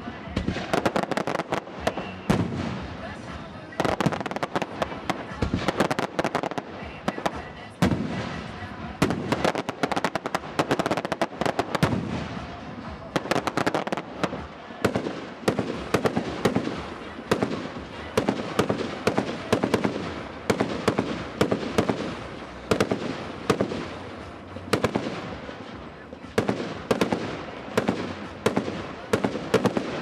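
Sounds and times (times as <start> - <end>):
fireworks crackling and banging: 0.0 - 30.0.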